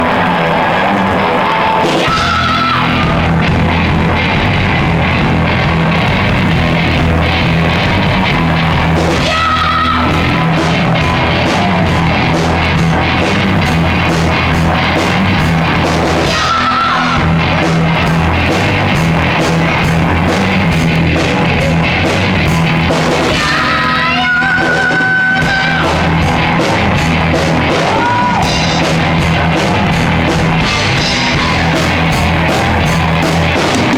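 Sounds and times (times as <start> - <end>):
hard rock music: 0.0 - 33.9.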